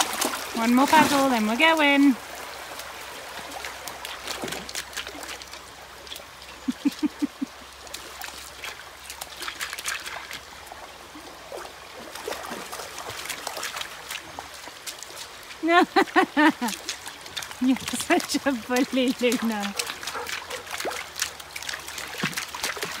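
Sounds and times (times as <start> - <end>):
dogs splashing in water: 0.0 - 10.5, 11.5 - 23.0
water trickling over stones: 0.0 - 23.0.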